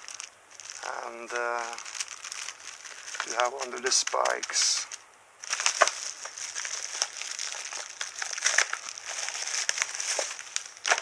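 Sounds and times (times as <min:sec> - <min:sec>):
packaging crinkling and rustling: 0:00.0 - 0:11.0
small crackles and clicks: 0:00.0 - 0:11.0.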